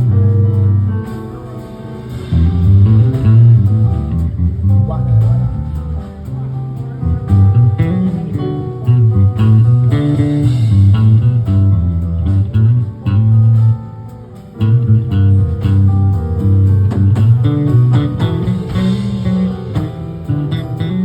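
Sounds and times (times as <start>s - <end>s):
bass line: 0.0s - 21.0s
guitar: 0.0s - 21.0s.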